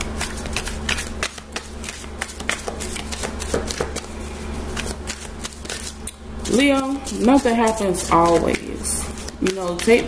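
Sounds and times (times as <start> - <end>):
cards being shuffled: 0.0 - 6.2, 7.0 - 10.0.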